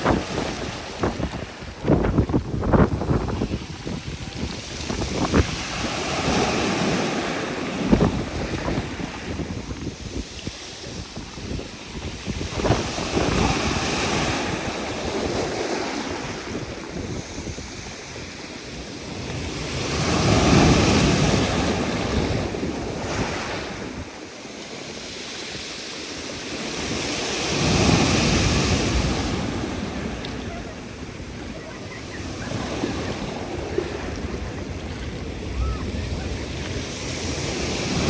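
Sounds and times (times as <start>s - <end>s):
waves on a stony shore: 0.0s - 38.0s
wind noise on microphone: 0.0s - 38.0s.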